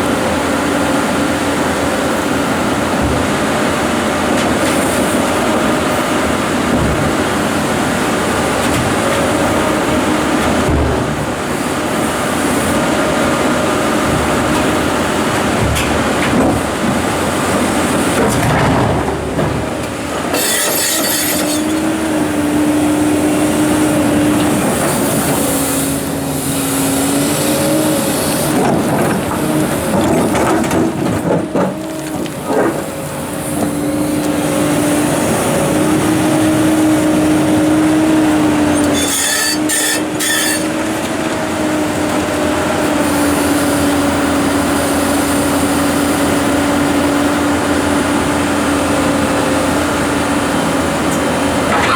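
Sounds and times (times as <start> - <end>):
excavator engine and hydraulics whine: 0.0 - 51.9.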